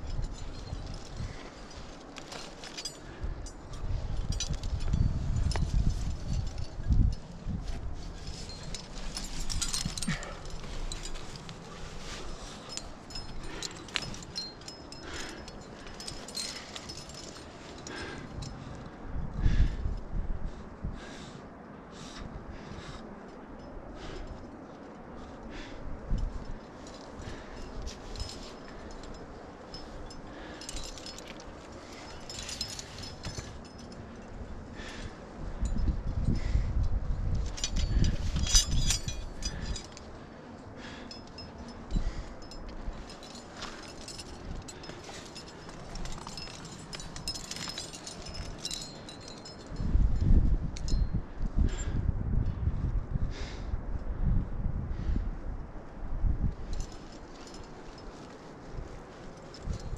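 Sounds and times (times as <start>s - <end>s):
climbing gear clicking on rock: 0.0s - 52.6s, 56.4s - 59.9s
wind rumble on microphone: 0.0s - 59.9s.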